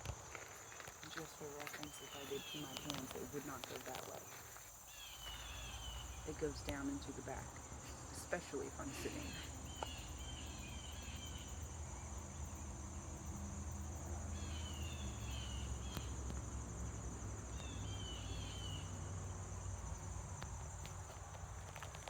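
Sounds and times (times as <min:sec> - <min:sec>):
insect trilling: 0:00.0 - 0:22.0.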